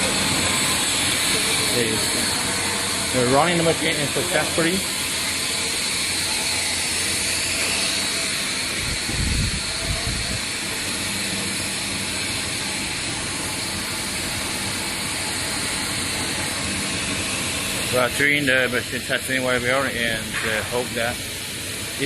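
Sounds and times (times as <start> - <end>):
steady machine hiss: 0.0 - 22.0.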